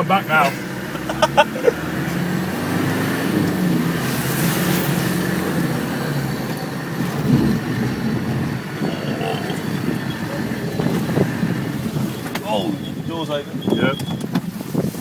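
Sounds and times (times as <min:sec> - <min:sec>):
engine running under load: 0:00.3 - 0:12.9
rush of water: 0:00.6 - 0:12.8.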